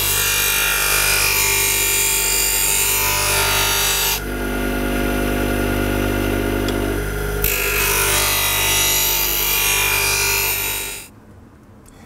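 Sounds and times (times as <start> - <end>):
bench grinder motor hum: 0.0 - 11.1.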